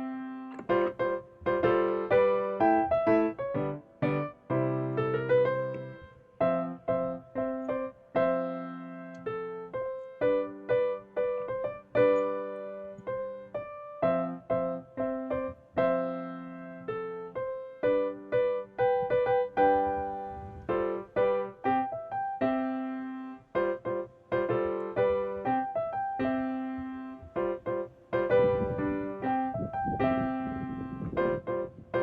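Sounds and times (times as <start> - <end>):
piano melody: 0.0 - 32.0.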